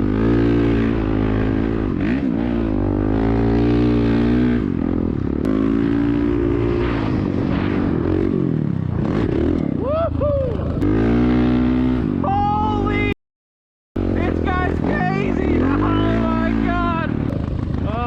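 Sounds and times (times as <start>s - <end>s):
dirt bike engine revving: 0.0s - 13.1s, 14.0s - 18.0s.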